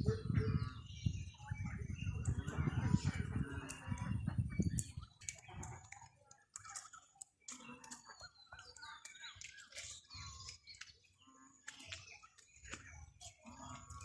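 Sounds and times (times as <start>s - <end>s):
bird chirps and calls: 0.0s - 14.0s.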